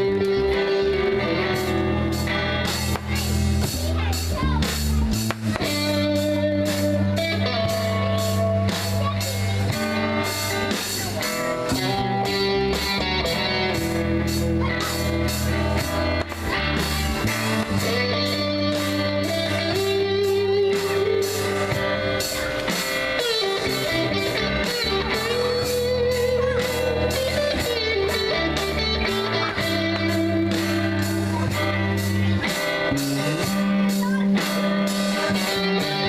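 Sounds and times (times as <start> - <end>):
bass guitar line: 0.0 - 36.0
drum kit steady beat: 0.0 - 36.0
electric guitars: 0.0 - 36.0.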